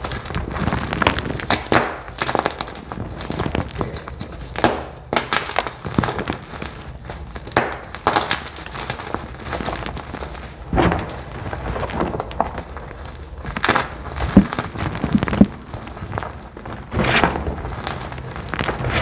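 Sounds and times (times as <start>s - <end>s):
crunchy blocks crushed in hands: 0.0s - 19.0s.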